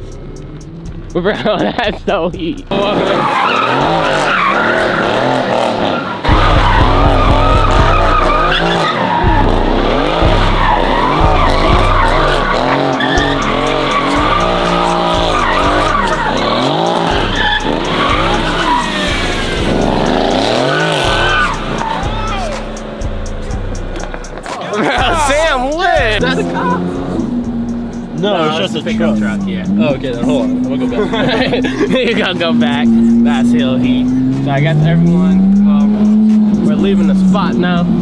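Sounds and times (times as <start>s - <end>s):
car engine revving: 0.0s - 38.0s
tyres squealing: 1.8s - 38.0s.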